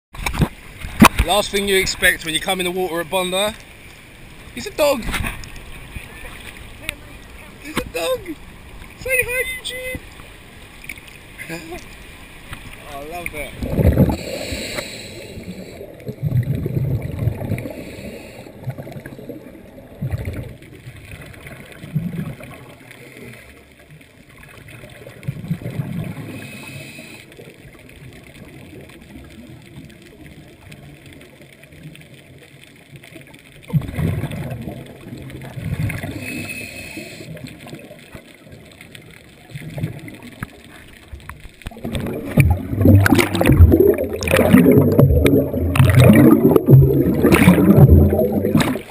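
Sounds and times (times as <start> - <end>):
underwater bubbles gurgling: 0.2 - 48.9.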